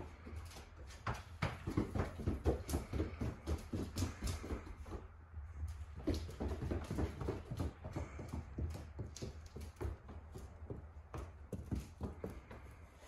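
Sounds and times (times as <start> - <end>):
goat hooves on wooden floor: 0.0 - 13.0.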